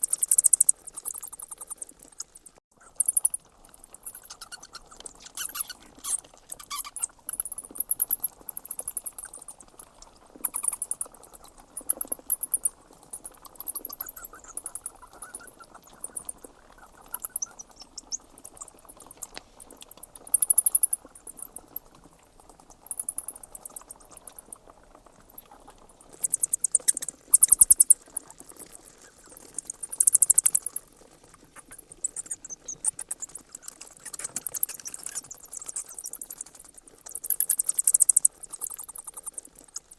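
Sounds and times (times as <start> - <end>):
bats squeaking: 0.0 - 39.9
faint background noise: 0.0 - 39.9.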